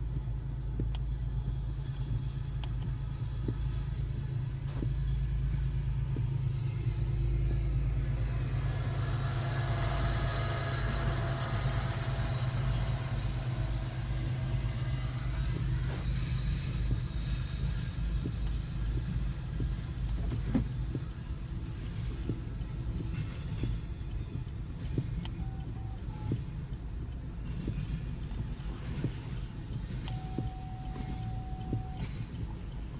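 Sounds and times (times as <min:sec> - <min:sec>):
car idling: 0:00.0 - 0:32.9
faint steady tones: 0:00.0 - 0:32.9
freight train passing: 0:00.0 - 0:32.9.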